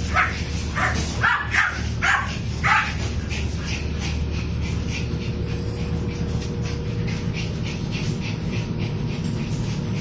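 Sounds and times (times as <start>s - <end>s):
dogs play-barking: 0.0s - 10.0s
steady low hum: 0.0s - 10.0s.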